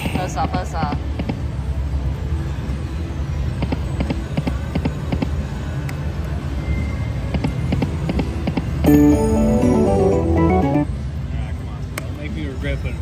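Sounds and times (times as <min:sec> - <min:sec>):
low casino hum: 0:00.0 - 0:13.0.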